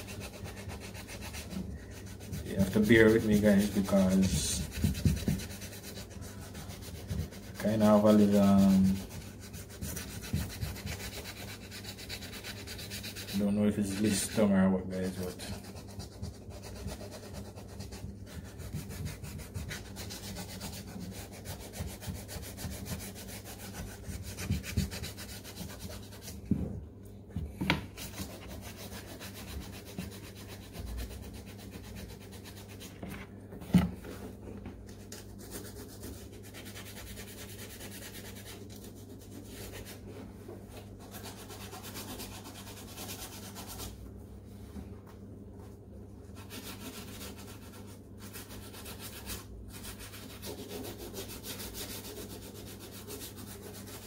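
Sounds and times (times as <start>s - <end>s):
sandpaper rubbing leather: 0.0s - 26.4s, 27.9s - 33.0s, 35.1s - 40.0s, 41.0s - 44.0s, 46.4s - 54.0s.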